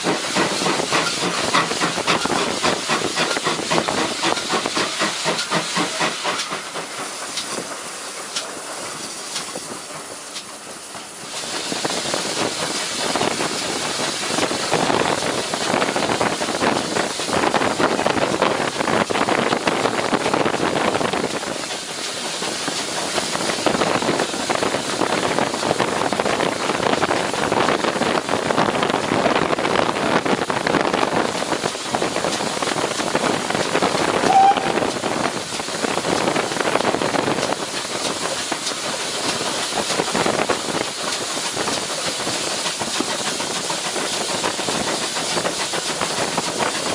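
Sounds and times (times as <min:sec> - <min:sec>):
steam hissing: 0:00.0 - 0:46.9
steam train noise: 0:00.0 - 0:46.9.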